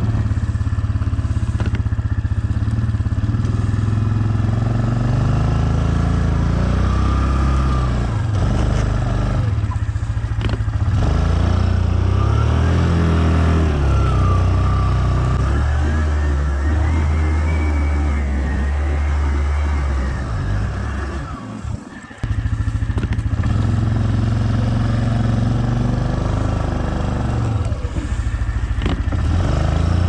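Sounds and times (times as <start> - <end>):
quad bike engine running: 0.0 - 30.0
rising and falling whine: 2.5 - 30.0.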